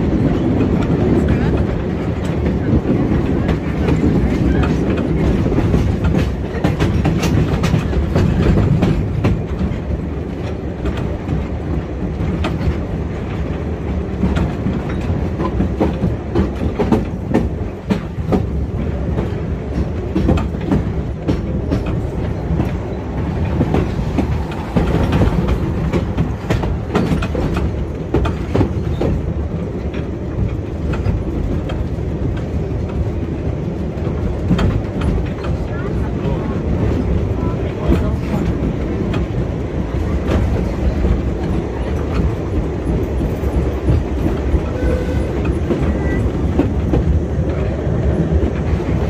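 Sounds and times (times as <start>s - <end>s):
train clattering and rattling: 0.0s - 49.0s
train wheels rumbling: 0.0s - 49.0s.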